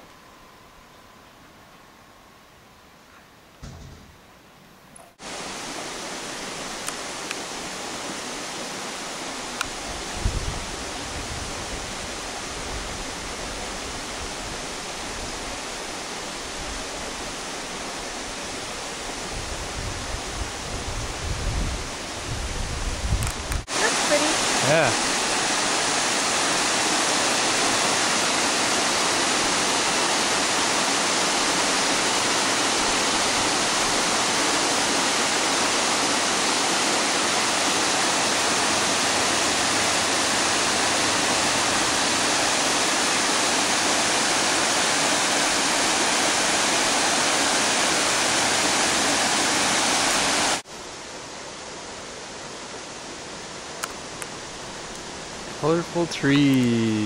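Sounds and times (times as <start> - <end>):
waterfall rushing over rocks: 5.2 - 20.8, 23.3 - 57.0.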